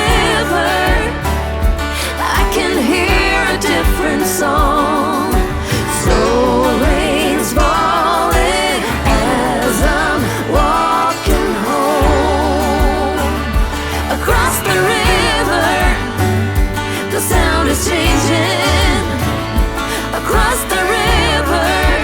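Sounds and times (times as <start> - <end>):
bass: 0.0 - 22.0
person singing long notes: 0.0 - 22.0
steady drum beat: 0.0 - 22.0.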